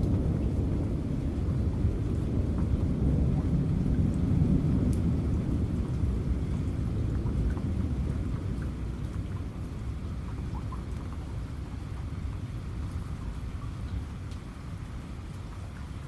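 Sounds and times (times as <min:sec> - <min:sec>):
low thunder rumble: 0:00.0 - 0:15.2
raindrop ticks: 0:00.0 - 0:16.0
steady rain: 0:00.0 - 0:16.0.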